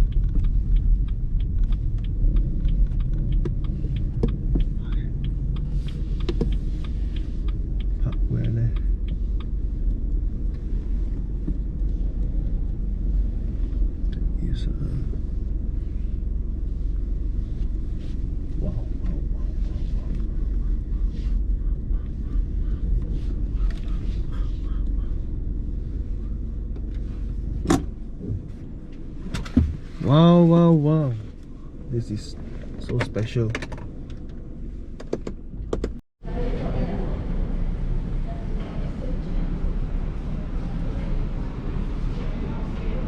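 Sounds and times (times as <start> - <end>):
car engine running: 0.0 - 36.5.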